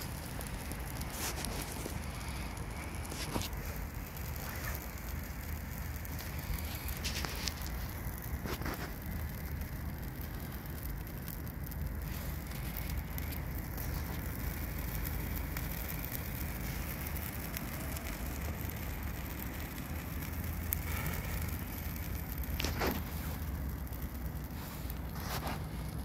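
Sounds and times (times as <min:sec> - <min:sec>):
fire burning with rushing flame: 0:00.0 - 0:26.0
fire crackling and popping: 0:00.0 - 0:26.0.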